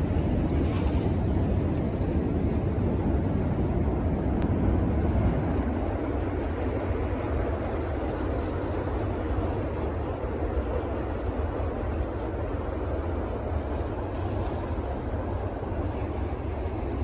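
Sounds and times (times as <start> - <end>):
boat engine rumble: 0.0 - 17.0
wind on microphone: 0.0 - 17.0.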